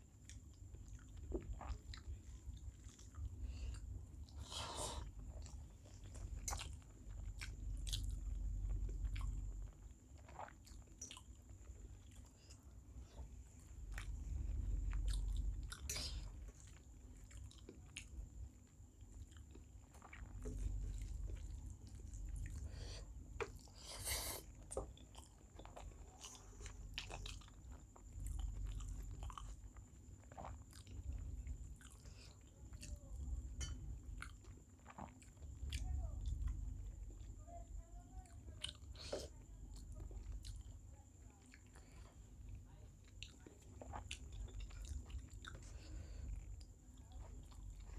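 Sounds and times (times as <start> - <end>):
person chewing food: 0.0 - 37.3, 38.3 - 47.9.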